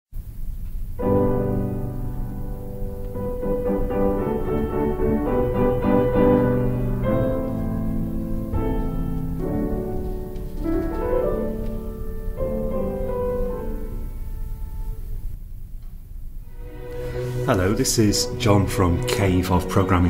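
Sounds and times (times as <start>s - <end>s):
piano intro music: 0.8s - 15.4s, 16.5s - 20.0s.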